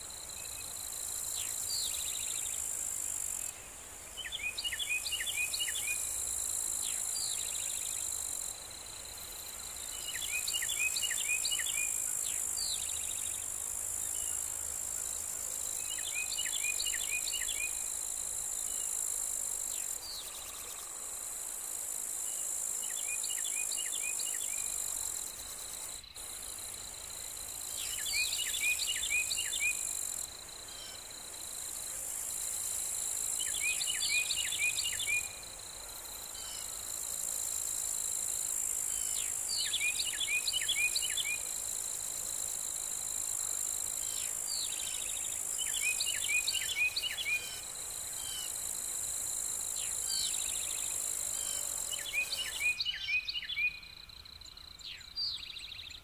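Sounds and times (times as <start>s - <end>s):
insects chirring chorus: 0.0s - 56.0s.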